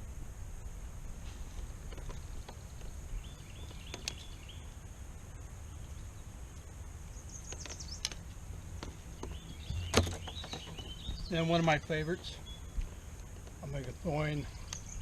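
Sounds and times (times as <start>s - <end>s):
high steady hiss: 0.0s - 15.0s
low wind rumble: 0.0s - 15.0s
bird chirping: 1.9s - 4.9s, 5.6s - 15.0s.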